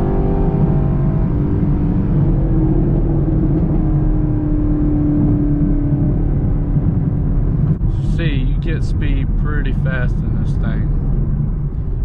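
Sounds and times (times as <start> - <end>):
car engine drone accelerating: 0.0 - 12.0.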